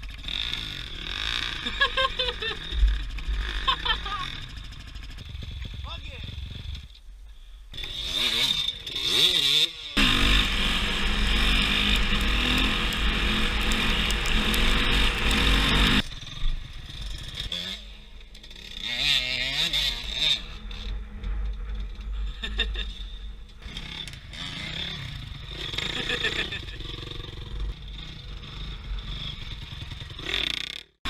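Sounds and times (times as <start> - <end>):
dirt bike engines revving: 0.0 - 7.0, 7.7 - 31.0.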